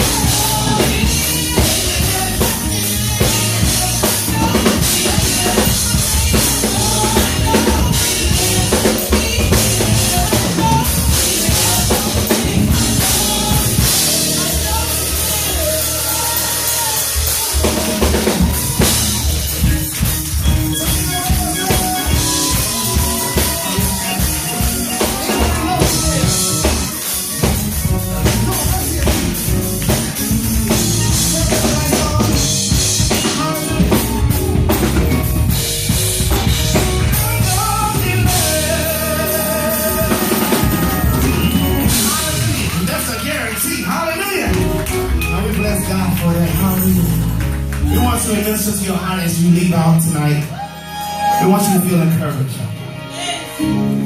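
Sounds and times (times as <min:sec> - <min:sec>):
drum kit steady beat: 0:00.0 - 0:51.8
live gospel band music: 0:00.0 - 0:54.0.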